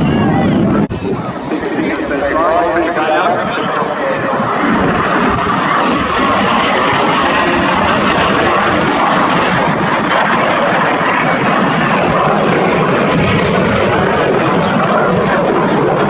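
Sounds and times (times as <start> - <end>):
aircraft engine rushing: 0.0 - 16.0.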